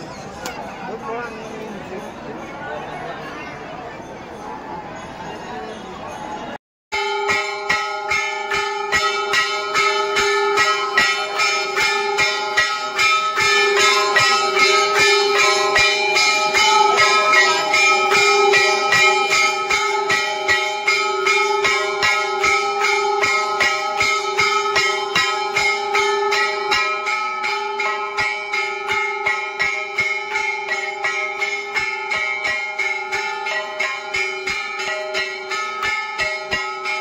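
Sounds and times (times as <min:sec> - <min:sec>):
temple bells ringing: 0:00.0 - 0:37.0.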